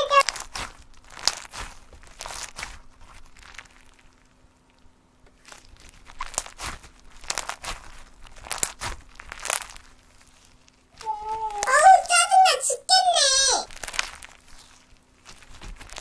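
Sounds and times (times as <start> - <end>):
slime squishing and crackling: 0.0 - 12.4, 13.2 - 16.0.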